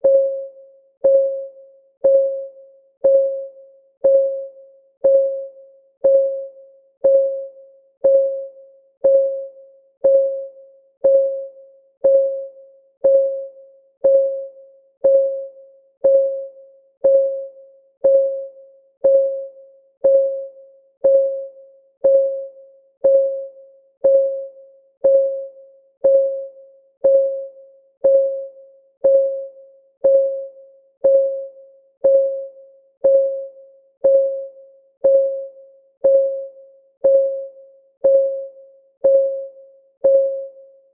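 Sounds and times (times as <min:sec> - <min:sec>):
electronic clock ticking: 0:00.0 - 0:40.6.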